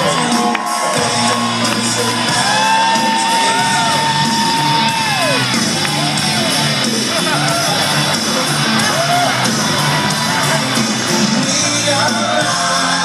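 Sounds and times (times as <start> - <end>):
crowd cheering and shouting: 0.0 - 13.0
loud rock music: 0.0 - 13.0.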